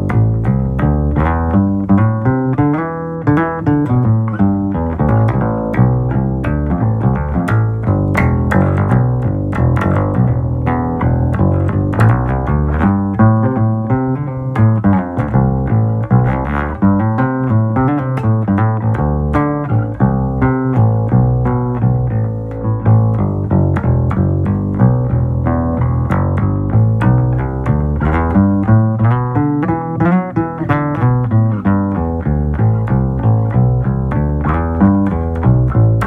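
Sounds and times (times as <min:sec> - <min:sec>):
acoustic bass guitar plucked notes: 0:00.0 - 0:36.0.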